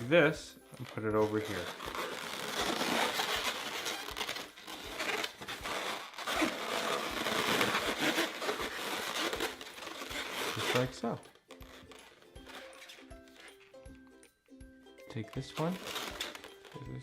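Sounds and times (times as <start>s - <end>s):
balloons rubbing and scrunching: 0.8s - 14.0s, 15.4s - 17.0s.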